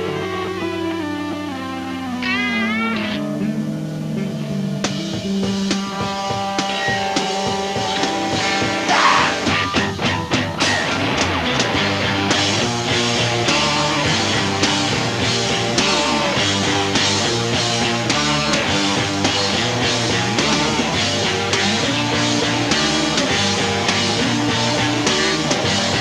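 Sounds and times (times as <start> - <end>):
electric guitar: 0.0 - 26.0
drums keeping a steady beat: 3.4 - 26.0.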